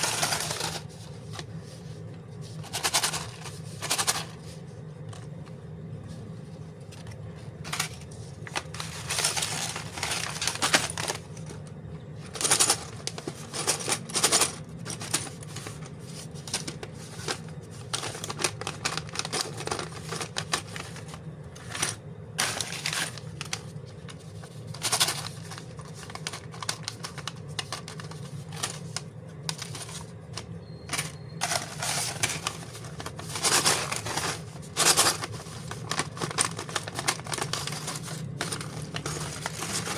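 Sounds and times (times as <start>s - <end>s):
plastic bags crinkling: 0.0s - 1.6s, 7.5s - 11.6s, 12.3s - 39.9s
steady low hum: 0.0s - 39.9s.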